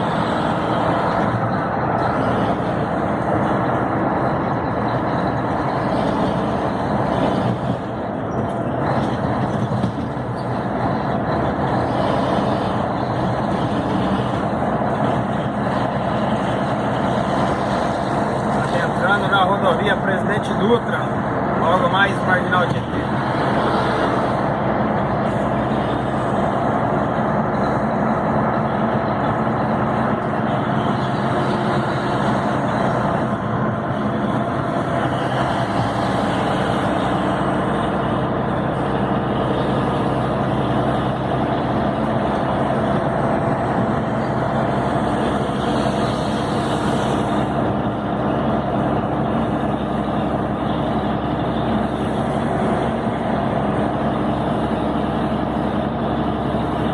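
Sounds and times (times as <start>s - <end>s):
road noise: 0.0s - 56.9s
truck diesel engine running: 0.0s - 56.9s.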